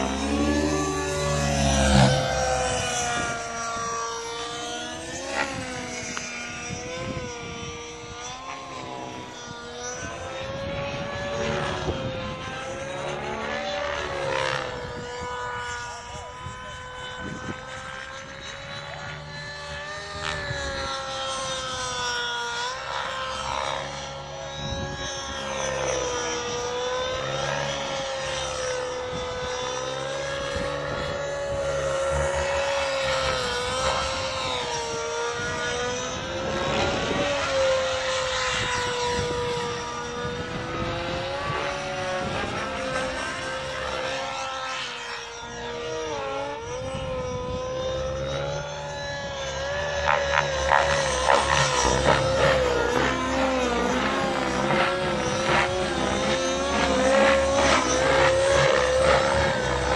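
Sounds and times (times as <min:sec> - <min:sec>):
model helicopter engine and rotors: 0:00.0 - 0:59.9.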